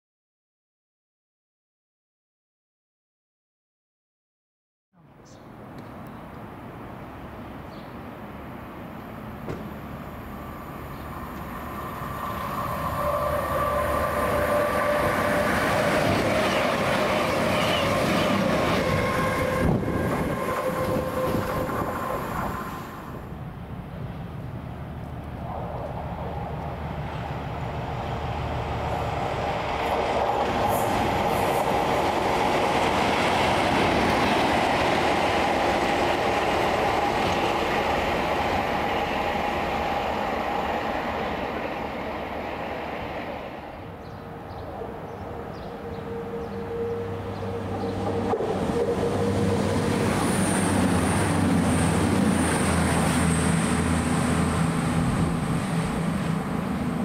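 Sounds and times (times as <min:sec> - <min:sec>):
train approaching: 0:06.4 - 0:57.0
train whine: 0:06.8 - 0:57.0.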